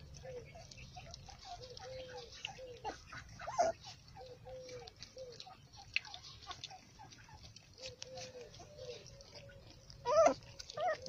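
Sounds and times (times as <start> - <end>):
puppies lapping milk: 0.0 - 11.0
puppies whining: 0.0 - 11.0.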